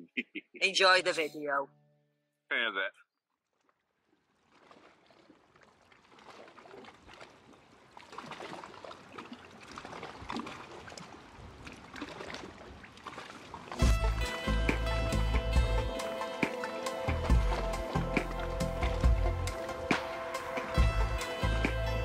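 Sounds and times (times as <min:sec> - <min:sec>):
water washing and trickling: 0:03.4 - 0:22.0.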